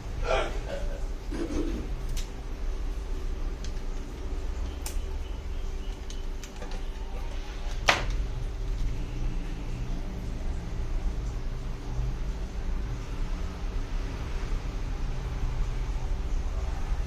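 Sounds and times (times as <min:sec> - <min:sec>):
low hum and rumble: 0:00.0 - 0:17.0.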